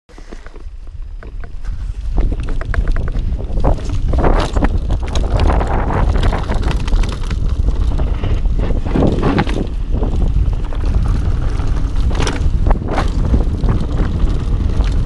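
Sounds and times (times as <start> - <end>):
bike rattling over bumps: 0.1 - 15.0
wind buffeting microphone: 0.7 - 15.0.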